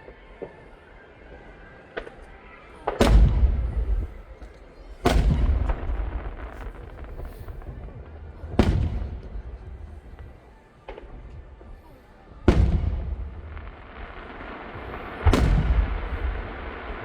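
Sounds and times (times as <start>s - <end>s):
fireworks booming: 2.8s - 17.0s.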